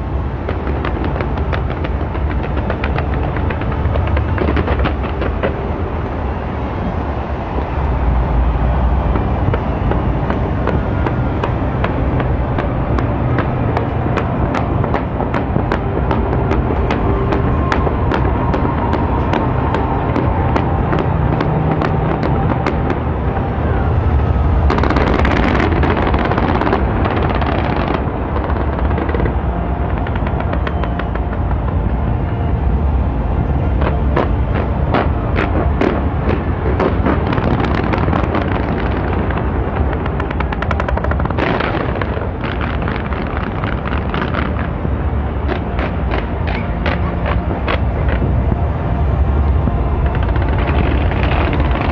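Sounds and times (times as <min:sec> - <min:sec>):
fireworks booming: 0:00.0 - 0:51.9
fireworks crackling pops: 0:00.3 - 0:08.4, 0:09.0 - 0:32.4, 0:33.4 - 0:48.5, 0:49.4 - 0:51.9.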